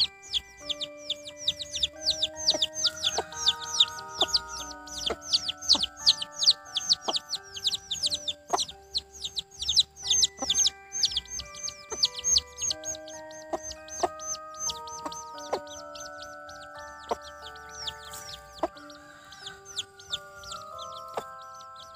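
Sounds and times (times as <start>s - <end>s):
background music of held notes: 0.0s - 21.9s
chicks peeping: 0.0s - 21.9s.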